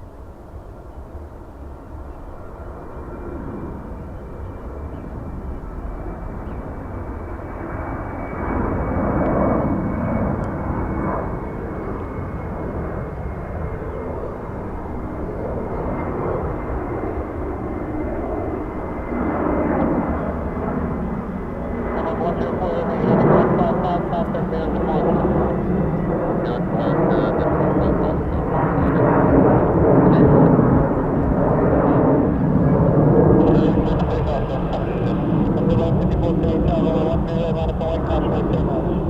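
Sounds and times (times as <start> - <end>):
jet airliner passing: 0.0 - 39.0
jet engine high whine: 0.0 - 39.0
jet engine low rumble: 0.0 - 39.0.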